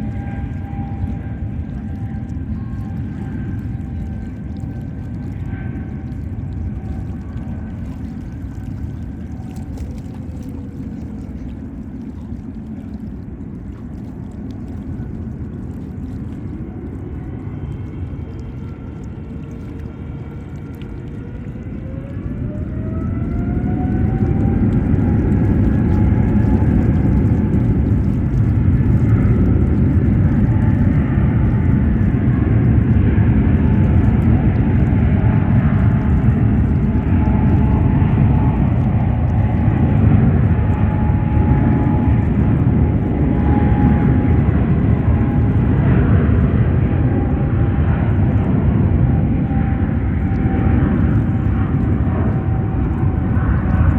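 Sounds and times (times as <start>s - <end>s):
faint engine whine: 0.0s - 53.9s
jet engines rumbling: 0.0s - 53.9s.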